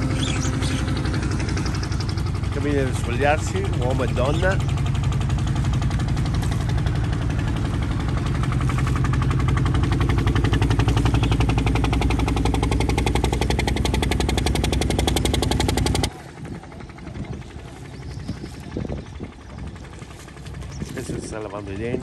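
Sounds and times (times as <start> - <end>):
small boat motor running: 0.0 - 22.0.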